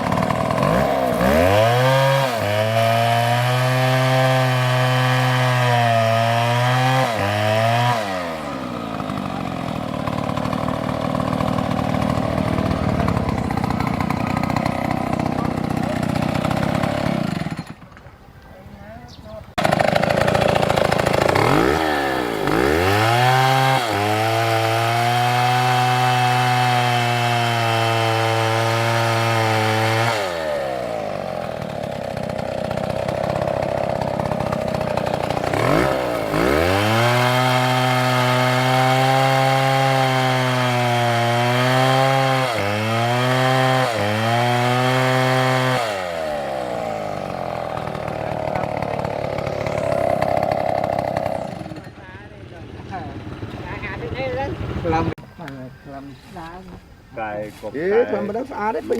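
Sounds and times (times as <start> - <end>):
chainsaw revving and cutting wood: 0.0 - 18.1, 19.5 - 55.2.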